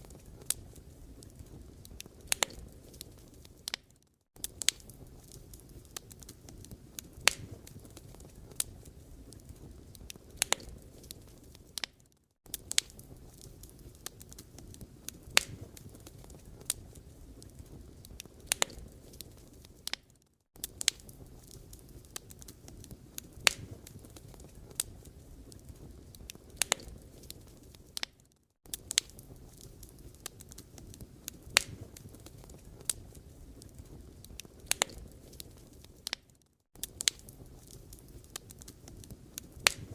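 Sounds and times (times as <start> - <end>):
firewood popping and crackling: 0.0 - 39.9
low rumble of flames: 0.0 - 39.9.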